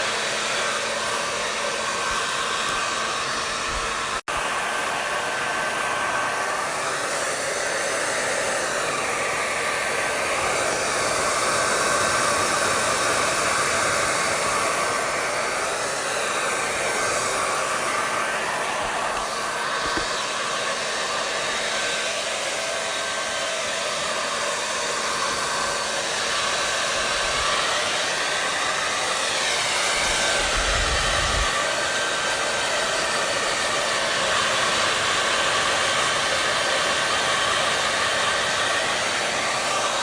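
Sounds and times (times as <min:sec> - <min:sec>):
hair dryer blowing: 0:00.0 - 0:40.0.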